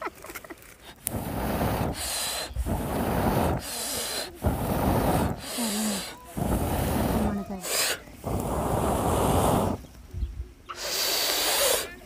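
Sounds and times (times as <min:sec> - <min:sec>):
man blowing into fire: 0:00.8 - 0:10.0, 0:10.7 - 0:12.0.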